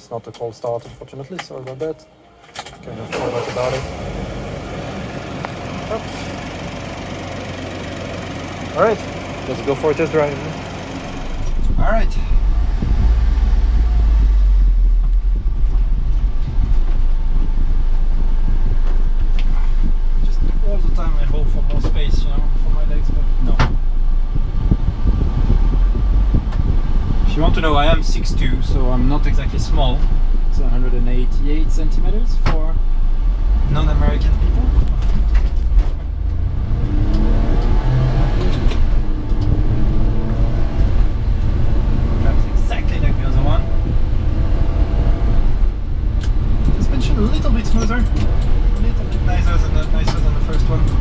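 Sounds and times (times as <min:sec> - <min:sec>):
road and drivetrain noise: 0:00.0 - 0:51.0
truck engine low rumble: 0:02.8 - 0:51.0.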